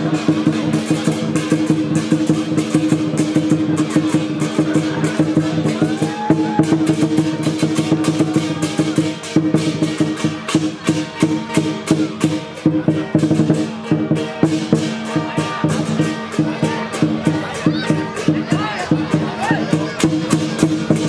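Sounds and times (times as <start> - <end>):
clashing cymbals: 0.0 - 21.0
lion dance drum beaten fast: 0.0 - 21.0.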